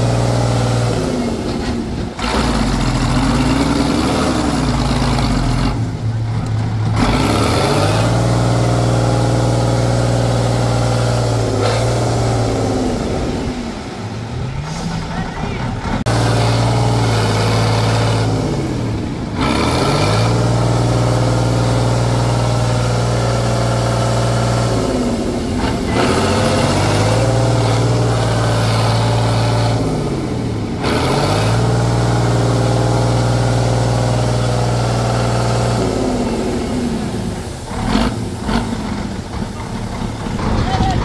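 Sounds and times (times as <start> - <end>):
truck engine at high revs: 0.0 - 41.0.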